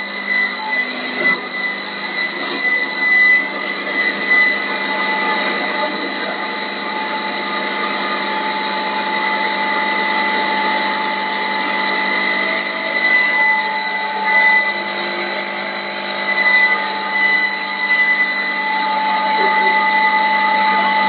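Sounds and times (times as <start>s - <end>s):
wood-turning lathe running: 0.0s - 21.0s.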